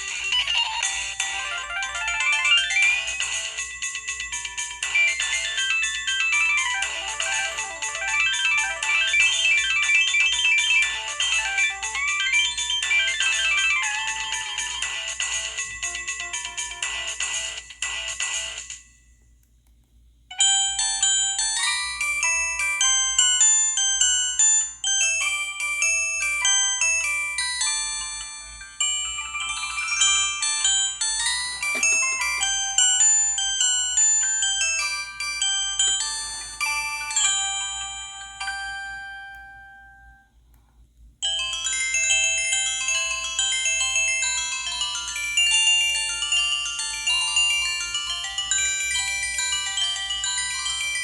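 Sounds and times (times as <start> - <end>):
mobile phone ringtone melody: 0.0 - 19.0, 20.3 - 40.4, 41.2 - 51.0.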